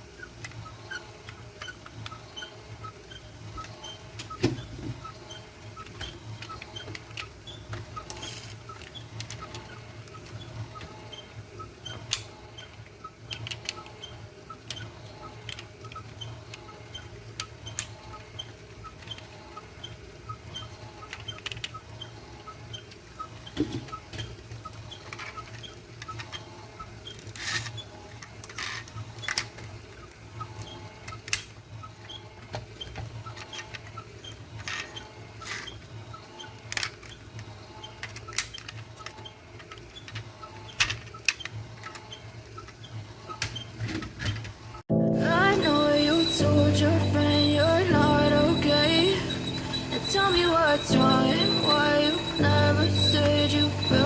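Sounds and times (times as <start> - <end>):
toy cars clicking and scraping: 0.0 - 54.0.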